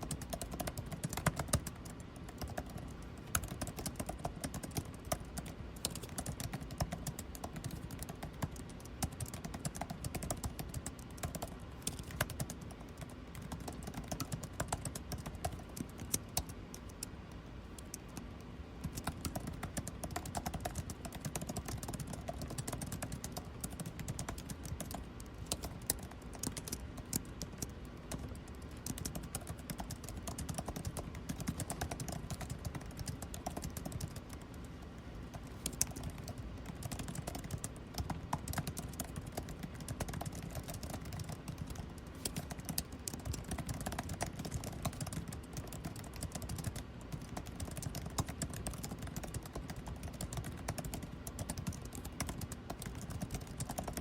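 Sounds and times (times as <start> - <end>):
air conditioning hum: 0.0 - 54.0
typing on computer keyboard: 0.0 - 54.0.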